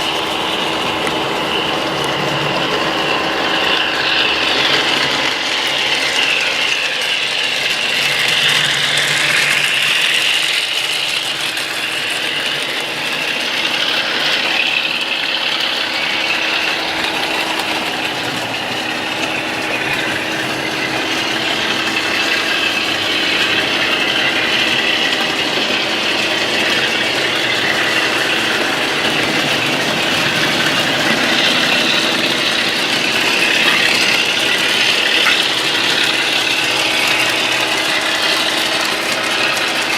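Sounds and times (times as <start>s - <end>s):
wheels clattering on rails: 0.0s - 39.9s.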